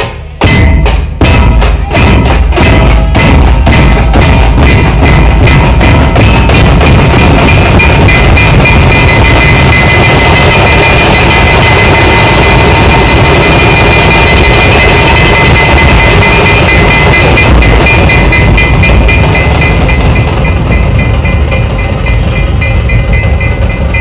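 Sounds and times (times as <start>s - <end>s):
cymbals ringing: 0.0s - 24.0s
drums beating fast rhythm: 0.0s - 24.0s.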